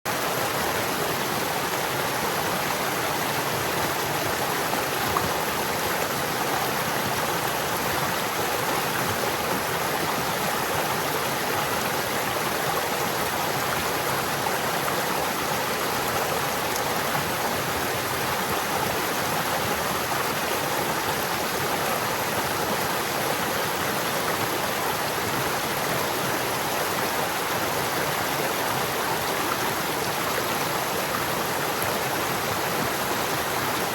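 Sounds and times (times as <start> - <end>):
stream water rushing and babbling: 0.1 - 33.9.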